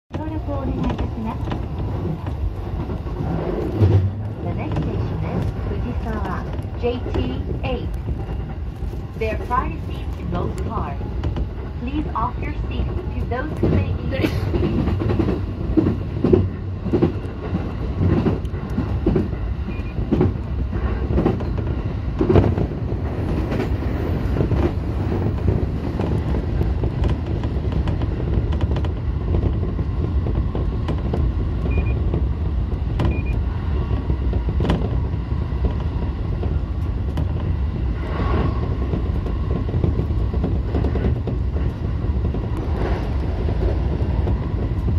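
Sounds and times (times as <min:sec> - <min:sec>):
train low rumble: 0:00.1 - 0:44.9.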